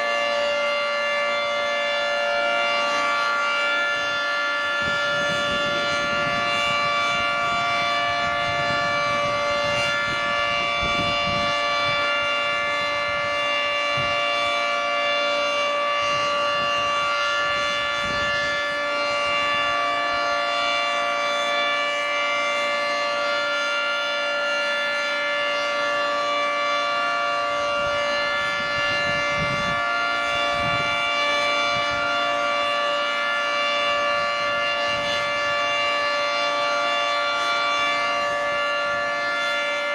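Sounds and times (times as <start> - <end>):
steady warning siren chord: 0.0 - 39.9.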